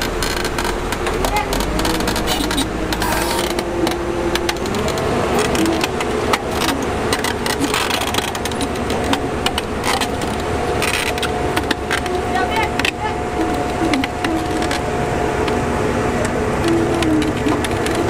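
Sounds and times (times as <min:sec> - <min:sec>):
diesel engines revving: 0:00.0 - 0:18.0.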